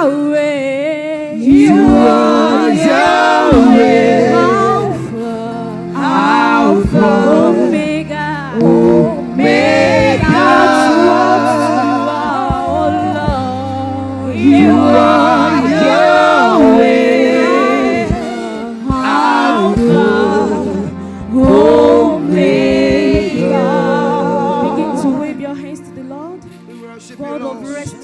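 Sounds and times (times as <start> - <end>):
gospel singing: 0.0 - 28.0
held low accompaniment notes: 1.7 - 27.0.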